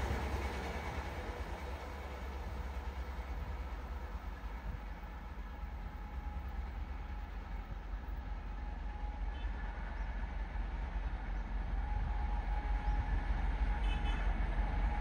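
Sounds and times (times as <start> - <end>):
train coaches rumbling on rails: 0.0 - 15.0.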